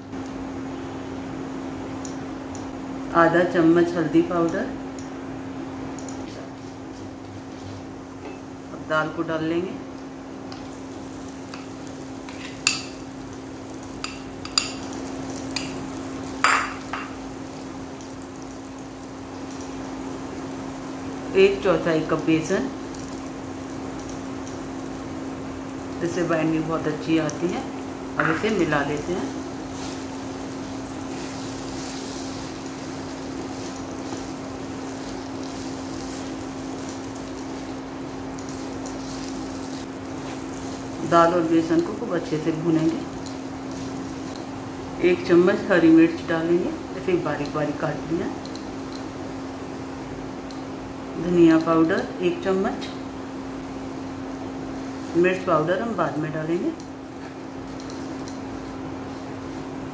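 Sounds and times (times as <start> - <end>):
food sizzling in oil: 0.0 - 59.9.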